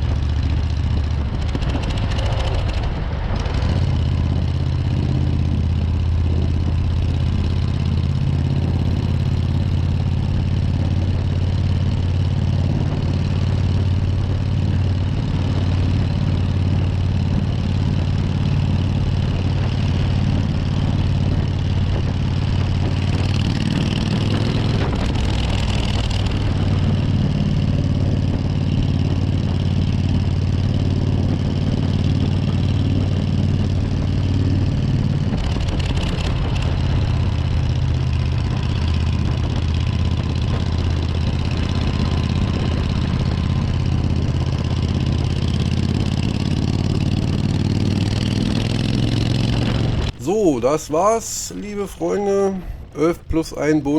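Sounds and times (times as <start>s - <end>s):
motorcycle engine running: 0.0s - 50.2s.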